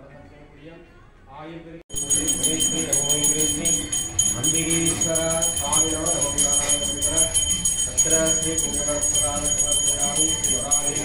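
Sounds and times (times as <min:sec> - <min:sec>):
hand bell ringing: 0:01.9 - 0:11.0
person chanting: 0:02.0 - 0:11.0.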